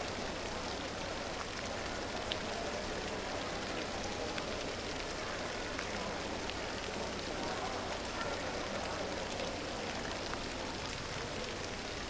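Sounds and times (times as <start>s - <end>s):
water spraying onto pool: 0.0s - 12.0s.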